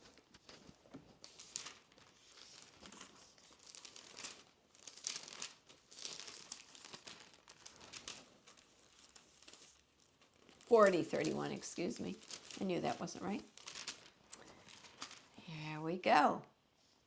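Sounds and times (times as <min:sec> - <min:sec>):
paper pages rustling: 0:00.0 - 0:15.4.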